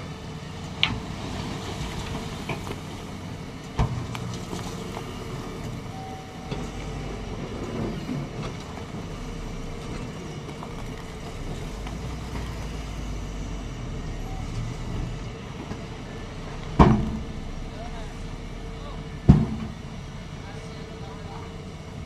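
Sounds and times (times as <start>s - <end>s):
diesel engines running: 0.0s - 22.0s
soil and rocks sliding: 0.7s - 21.2s.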